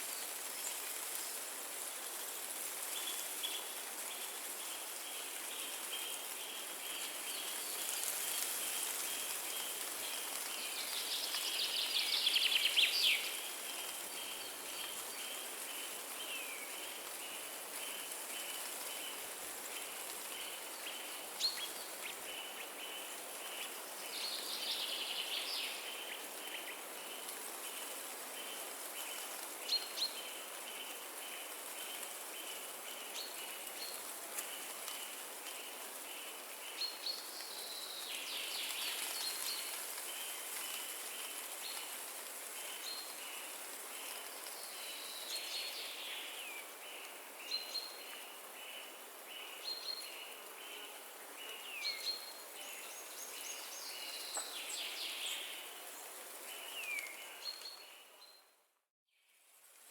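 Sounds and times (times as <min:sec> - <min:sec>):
wind through trees: 0:00.0 - 0:59.9.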